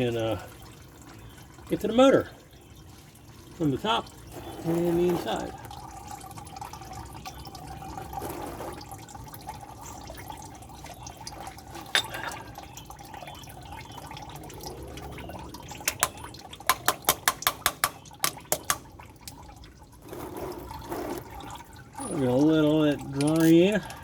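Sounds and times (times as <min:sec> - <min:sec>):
oil trickling into pan: 0:00.0 - 0:24.0.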